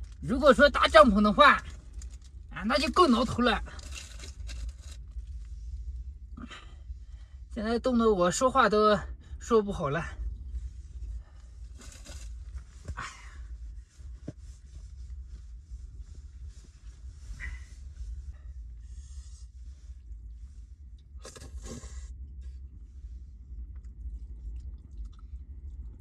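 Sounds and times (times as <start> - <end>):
low wind rumble: 0.0 - 26.0.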